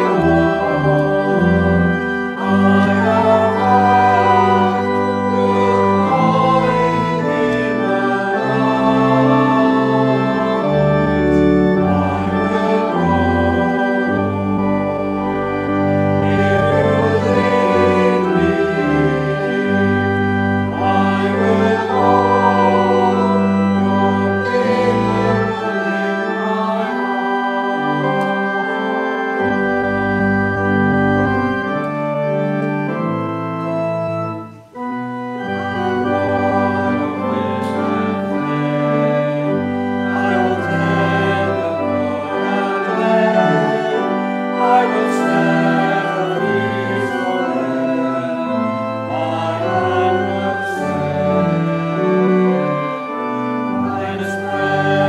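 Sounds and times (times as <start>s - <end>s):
church organ: 0.0s - 55.0s
congregation singing a hymn: 0.0s - 55.0s.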